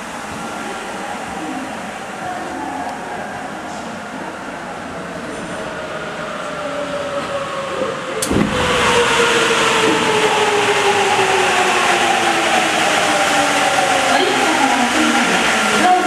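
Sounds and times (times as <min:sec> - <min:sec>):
subway train whine and rumble: 0:00.0 - 0:16.0.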